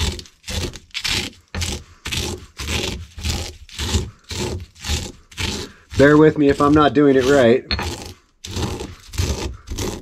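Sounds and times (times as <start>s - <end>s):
pestle grinding eggshells in mortar: 0.0s - 10.0s.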